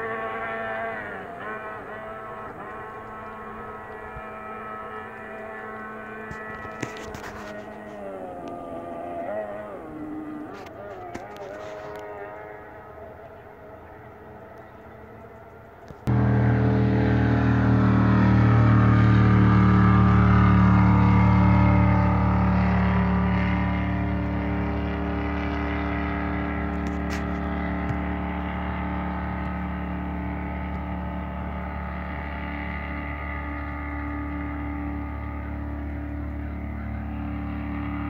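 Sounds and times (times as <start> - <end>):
racing boat engine drone: 0.0 - 38.0.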